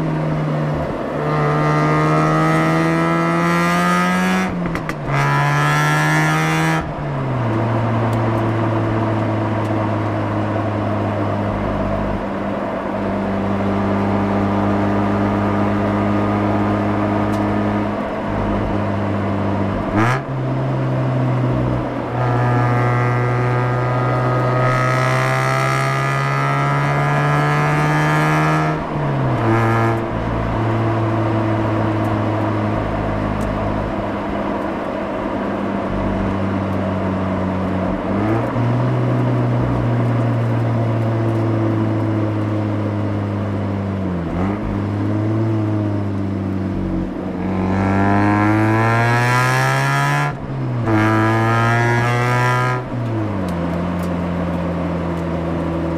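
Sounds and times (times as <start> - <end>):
rotary engine accelerating: 0.0 - 55.9.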